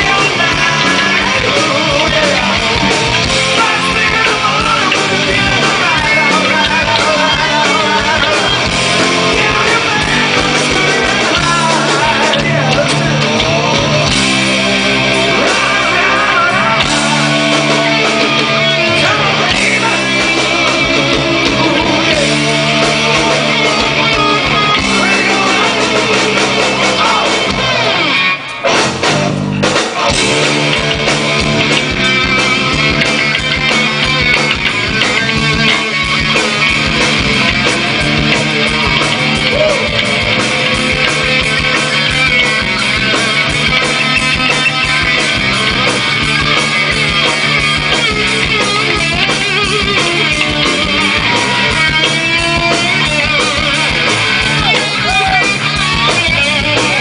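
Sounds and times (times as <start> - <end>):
live rock band with electric guitars: 0.0 - 57.0.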